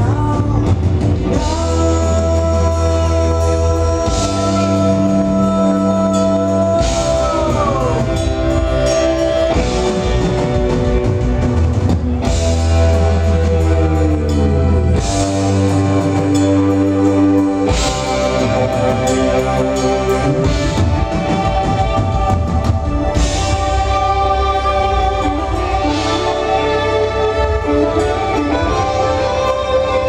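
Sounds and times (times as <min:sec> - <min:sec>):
drum kit: 0:00.0 - 0:30.0
progressive rock band playing: 0:00.0 - 0:30.0.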